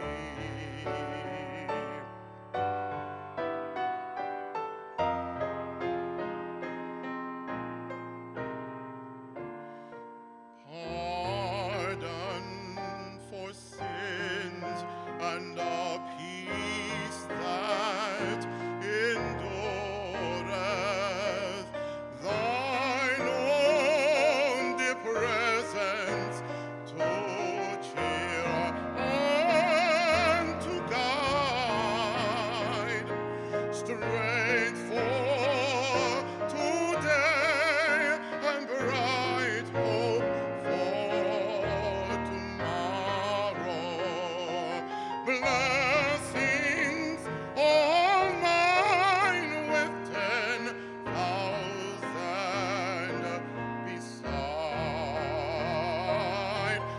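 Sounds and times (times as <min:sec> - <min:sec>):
man singing with vibrato: 0:00.0 - 0:02.9, 0:10.6 - 0:56.9
piano chords: 0:00.0 - 0:56.9.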